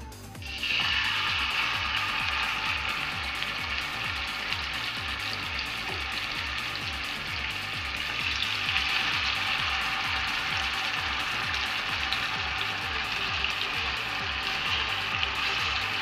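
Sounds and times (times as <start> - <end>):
chicken sizzling in grill pan: 0.4 - 16.0.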